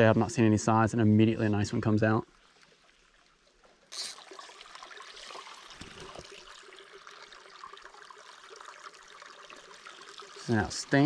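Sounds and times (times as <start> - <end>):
creek trickling: 0.0 - 11.0.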